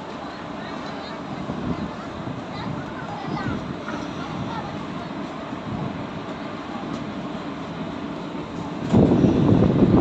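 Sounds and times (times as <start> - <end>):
train coaches rumbling past: 0.0 - 10.0.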